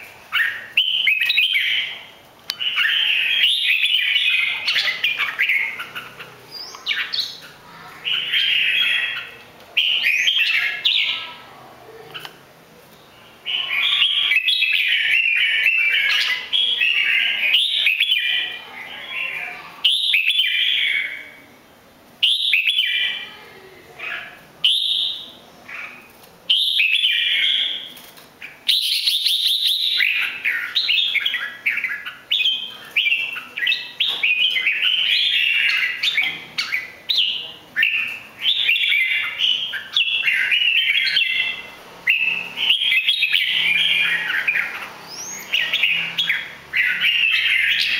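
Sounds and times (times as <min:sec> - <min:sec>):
bird singing warbled song: 0:00.0 - 0:12.4, 0:13.0 - 0:21.5, 0:22.2 - 0:47.9.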